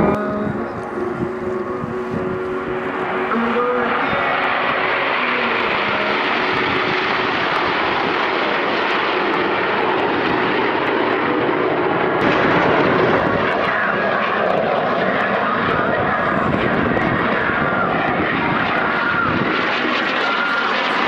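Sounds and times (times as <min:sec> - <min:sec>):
jet aircraft rushing: 0:00.0 - 0:21.0.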